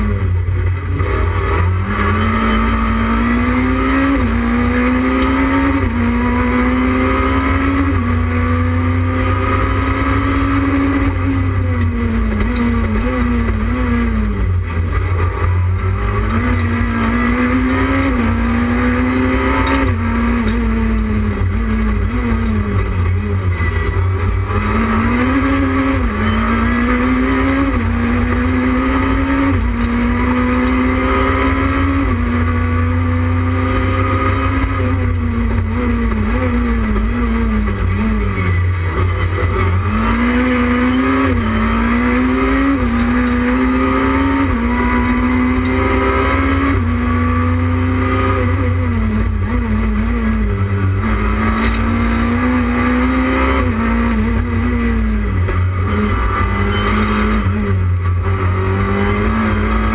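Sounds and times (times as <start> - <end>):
car engine accelerating: 0.0 - 59.9
road and cabin rumble: 0.0 - 59.9.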